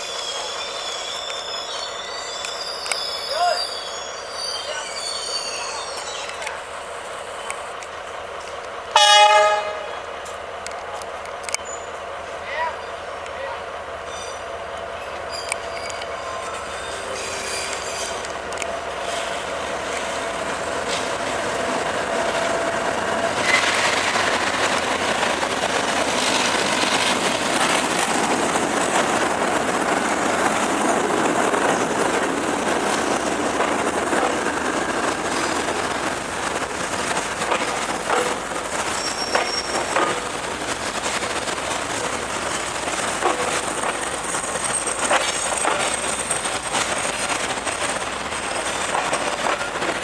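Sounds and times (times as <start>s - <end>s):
train wheels on rails: 0.0s - 50.0s.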